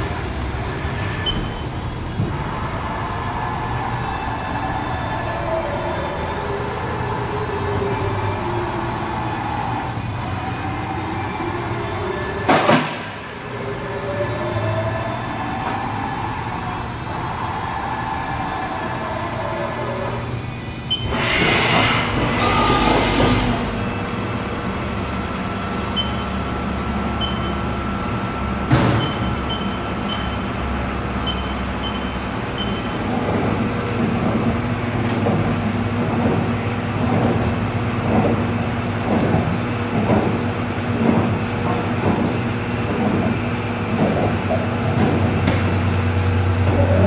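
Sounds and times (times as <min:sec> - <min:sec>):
machining center hum: 0:00.0 - 0:47.0.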